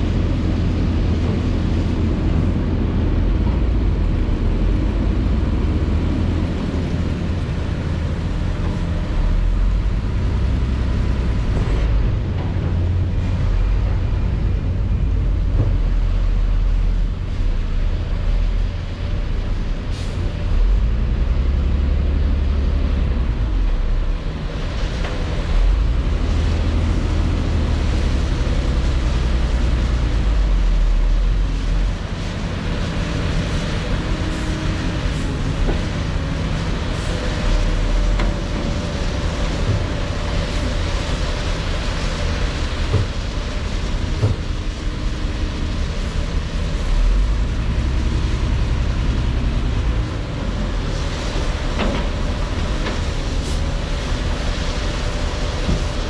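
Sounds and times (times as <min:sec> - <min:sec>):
diesel machinery engine rumbling: 0:00.0 - 0:56.0.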